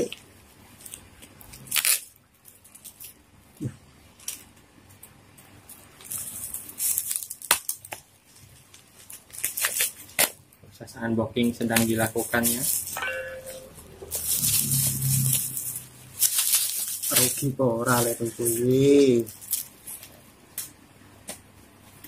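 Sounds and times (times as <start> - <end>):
plastic crinkling and tearing: 0.0 - 10.5, 11.5 - 13.0, 14.1 - 20.8.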